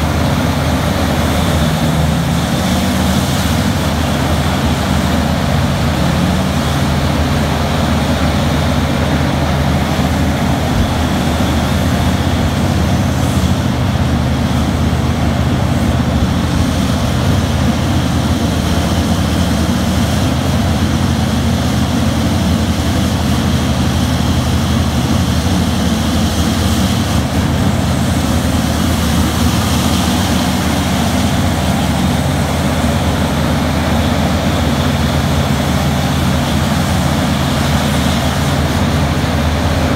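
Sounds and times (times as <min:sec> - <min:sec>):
mining shovel engine drone: 0:00.0 - 0:39.9.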